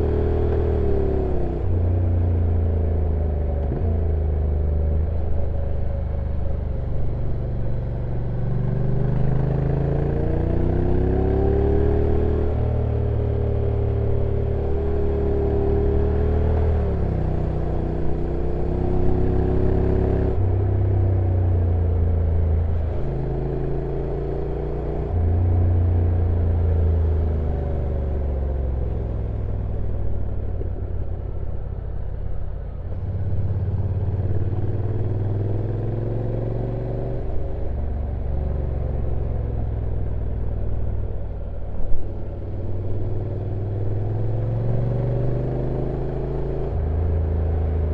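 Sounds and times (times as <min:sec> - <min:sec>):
motorcycle engine running: 0:00.8 - 0:44.8.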